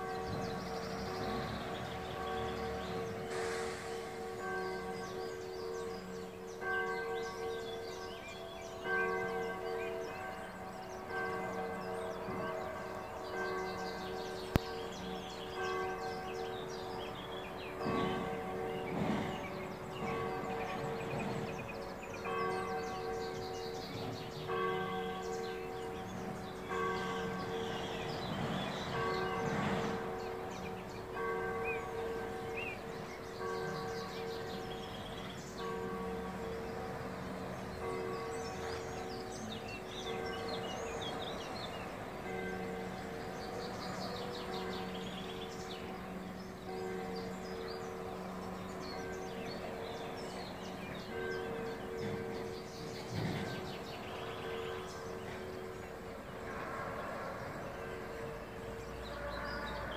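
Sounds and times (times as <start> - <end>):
birds chirping: 0.0 - 36.9, 37.5 - 56.6
church bells ringing: 0.0 - 59.9.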